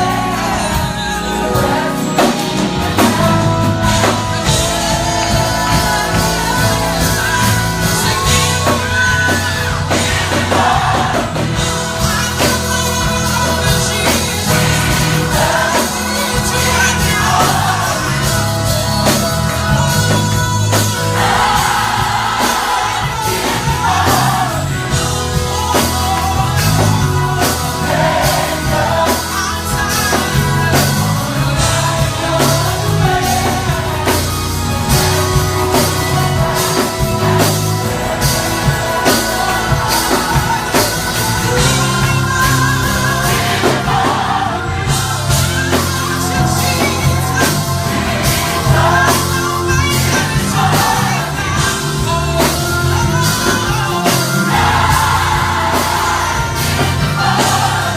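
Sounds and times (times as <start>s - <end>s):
bass: 0.0s - 57.9s
drums: 0.0s - 57.9s
gospel choir singing: 0.0s - 57.9s
keyboard: 0.0s - 57.9s.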